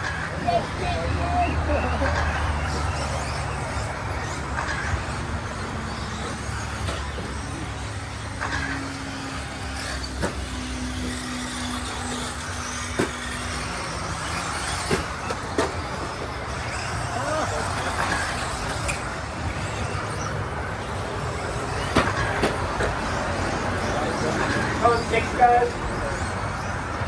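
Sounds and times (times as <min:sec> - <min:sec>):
rc truck motors and tyres: 0:00.0 - 0:27.0.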